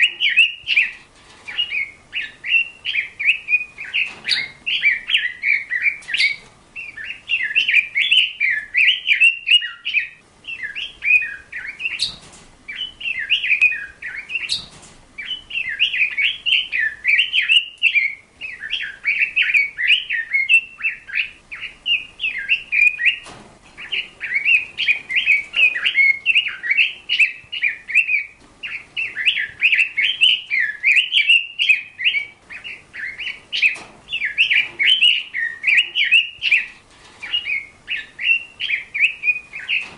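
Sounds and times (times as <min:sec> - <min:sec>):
bird twittering warble: 0:00.0 - 0:39.9.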